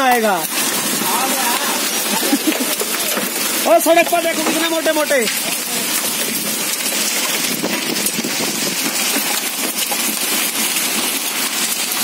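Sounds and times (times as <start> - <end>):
hail and rain pelting concrete: 0.0 - 12.0.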